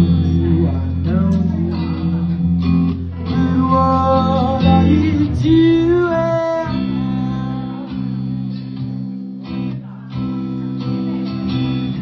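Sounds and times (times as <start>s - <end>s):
guitar chords ringing: 0.0s - 12.0s.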